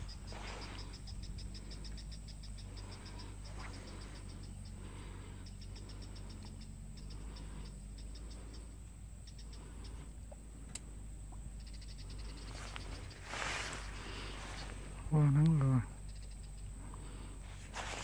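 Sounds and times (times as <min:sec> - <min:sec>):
rapid high animal chirps: 0:00.0 - 0:10.1, 0:11.6 - 0:17.2.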